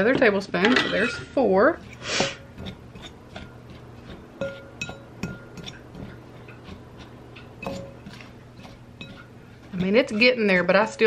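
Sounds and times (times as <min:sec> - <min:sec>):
fork clinking and scraping in bowl: 0:00.6 - 0:10.5.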